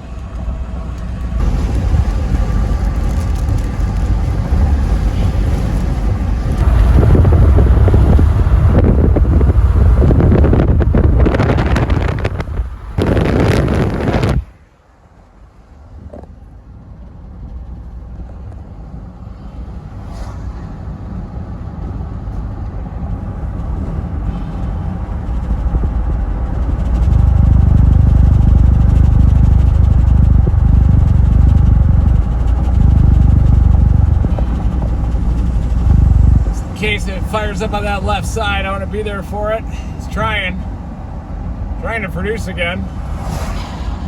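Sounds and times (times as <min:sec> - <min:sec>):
vehicle engine and road rumble: 0:00.0 - 0:44.0.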